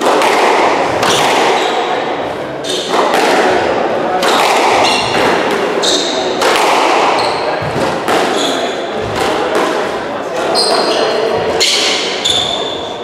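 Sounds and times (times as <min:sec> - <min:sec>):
squash ball hitting rackets and walls: 0:00.0 - 0:13.0.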